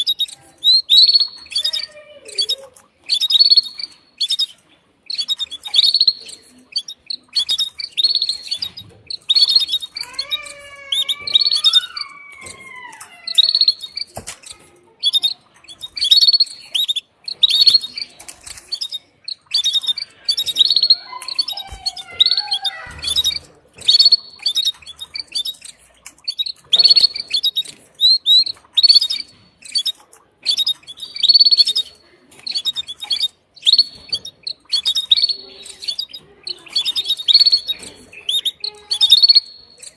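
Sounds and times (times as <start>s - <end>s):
canary chirping: 0.0s - 39.9s.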